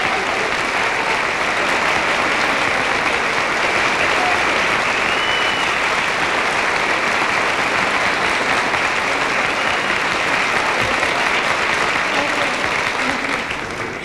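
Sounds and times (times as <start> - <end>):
large audience applauding: 0.0 - 14.0.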